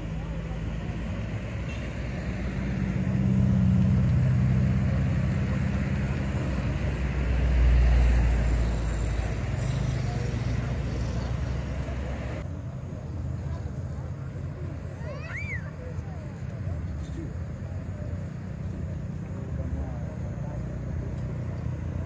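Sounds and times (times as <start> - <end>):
low engine rumble: 0.0 - 22.0
vehicles passing: 0.0 - 22.0.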